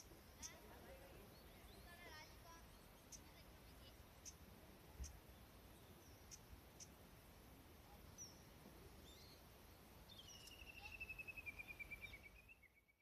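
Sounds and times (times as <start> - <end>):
faint birdsong chirps and trill: 0.0 - 13.0.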